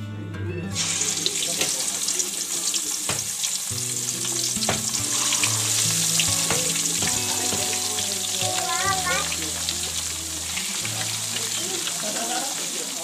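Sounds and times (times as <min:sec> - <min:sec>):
fish sizzling in hot oil: 0:00.8 - 0:13.0
oil crackling and popping: 0:00.8 - 0:13.0.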